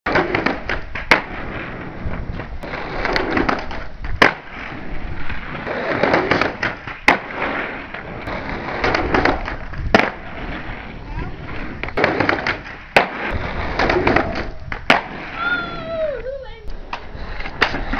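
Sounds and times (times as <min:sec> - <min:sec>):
skateboard wheels rolling on concrete: 0:00.0 - 0:17.9
skateboard clacking: 0:00.1 - 0:17.9.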